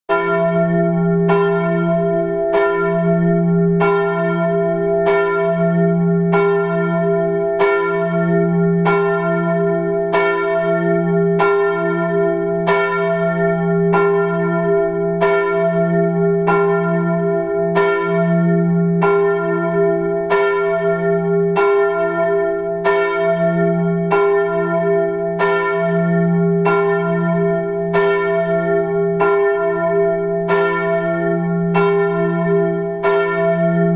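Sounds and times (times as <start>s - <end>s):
church bell tolling: 0.1s - 33.9s.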